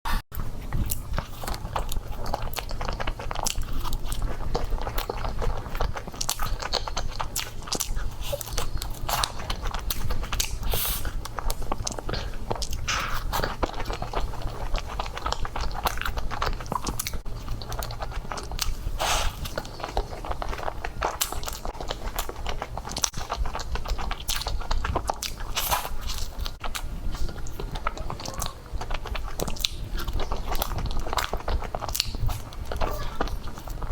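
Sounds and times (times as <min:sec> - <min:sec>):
biting and chewing: 0:00.1 - 0:33.9.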